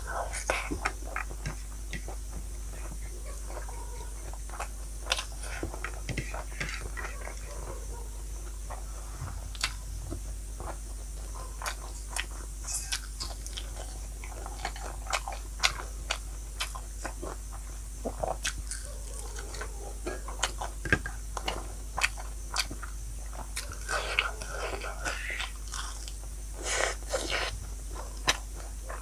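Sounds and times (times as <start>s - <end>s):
crunching and chewing food: 0.0s - 29.0s.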